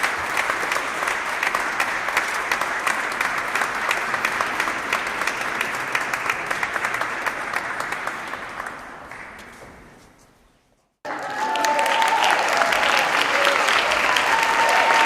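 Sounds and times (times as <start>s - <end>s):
crowd applauding: 0.0s - 9.6s, 11.0s - 15.0s.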